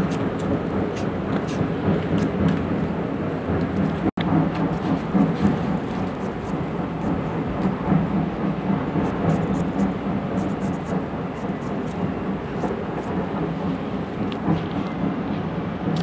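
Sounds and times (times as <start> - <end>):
steady low rumbling: 0.0 - 16.0.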